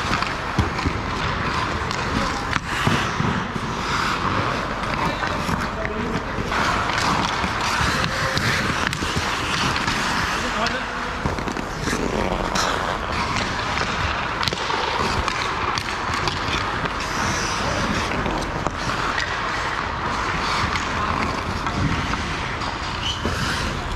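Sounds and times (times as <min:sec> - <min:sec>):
hockey sticks and pucks clacking: 0:00.0 - 0:23.9
skate blades scraping ice: 0:00.0 - 0:23.9.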